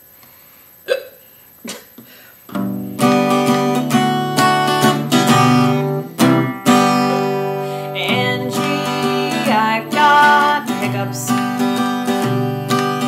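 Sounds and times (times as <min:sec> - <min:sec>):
acoustic guitar strumming chords: 0:02.5 - 0:13.0.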